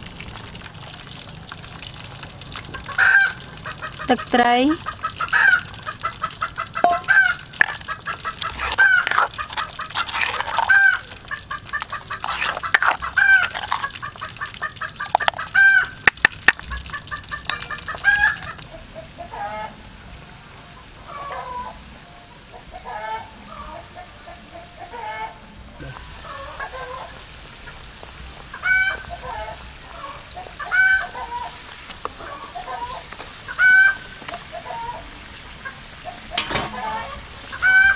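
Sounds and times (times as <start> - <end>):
oil sizzling: 0.0 - 37.9
chickens clucking: 2.7 - 19.9, 20.6 - 37.9.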